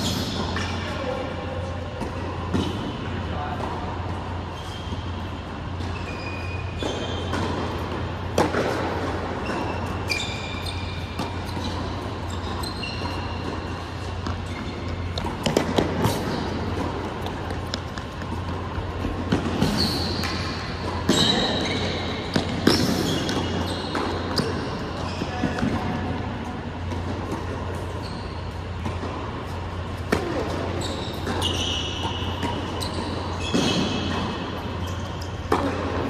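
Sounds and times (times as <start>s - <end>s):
sneakers squeaking on court: 0.0s - 36.0s
tennis balls bouncing: 1.7s - 36.0s.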